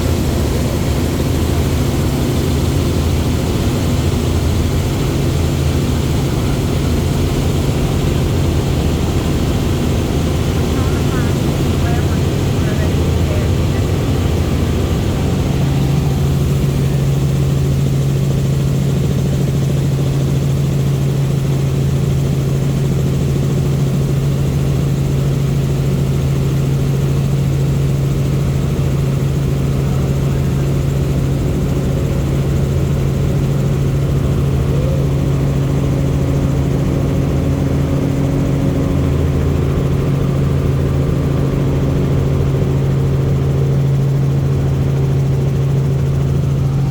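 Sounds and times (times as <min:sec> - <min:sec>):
helicopter rotor and engine drone: 0:00.0 - 0:46.9.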